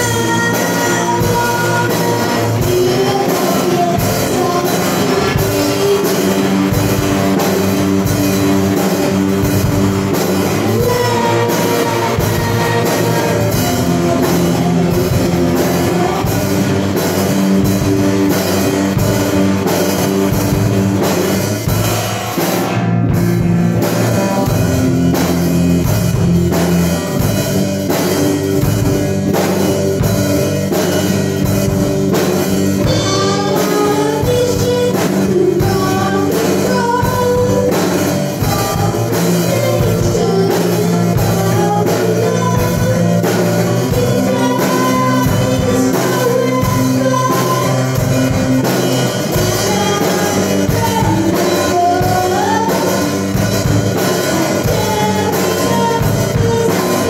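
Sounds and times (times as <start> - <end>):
rock band music: 0.0 - 57.0.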